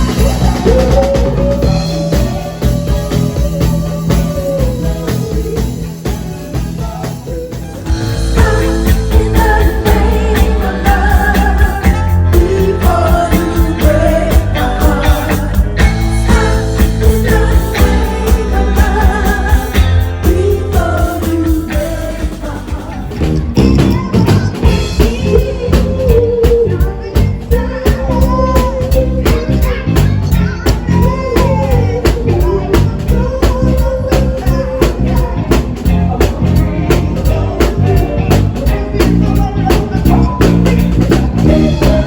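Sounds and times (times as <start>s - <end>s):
bass: 0.0s - 42.0s
live band playing with vocals: 0.0s - 42.0s
steady drum beat: 0.0s - 42.0s.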